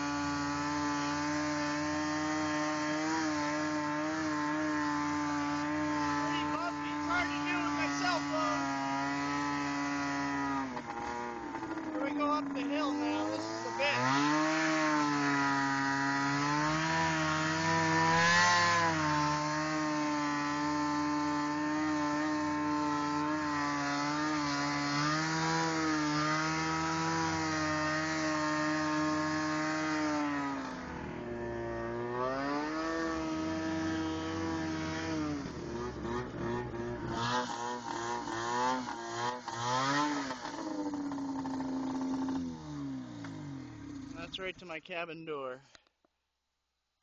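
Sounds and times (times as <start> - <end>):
snowmobile engine running: 0.0 - 45.2.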